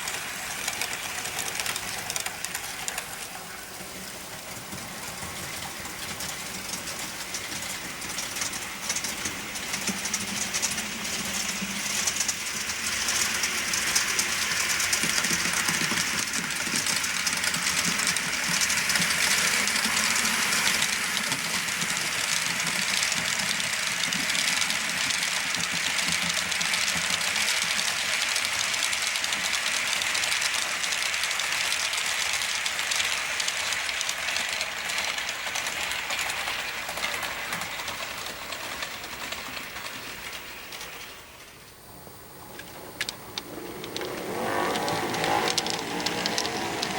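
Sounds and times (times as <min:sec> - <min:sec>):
model train running on track: 0:00.0 - 0:46.9.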